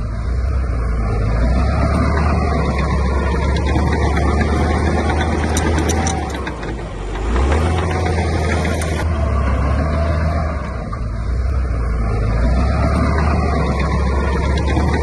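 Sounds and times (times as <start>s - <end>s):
sharp clicks: 0.0s - 9.1s, 9.9s - 15.0s
heavy diesel engine under load: 0.0s - 15.0s.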